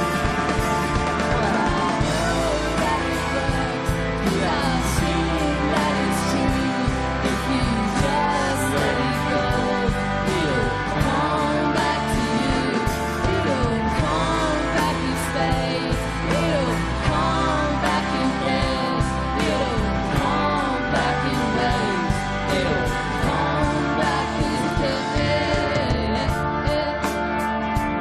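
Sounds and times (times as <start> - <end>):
rock band playing live: 0.0 - 28.0
person singing: 1.0 - 27.5.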